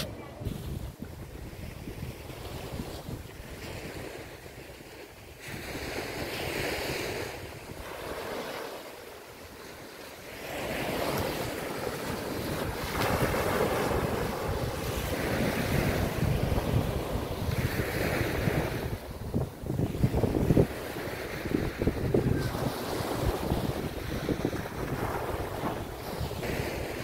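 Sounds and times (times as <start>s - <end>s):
wind buffeting microphone: 0.0s - 8.4s, 10.4s - 27.0s
small waves breaking on sand: 0.0s - 27.0s.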